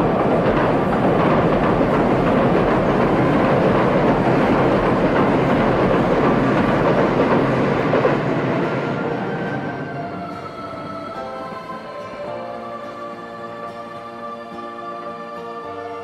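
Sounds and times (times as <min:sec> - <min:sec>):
train passing on rails: 0:00.0 - 0:16.0.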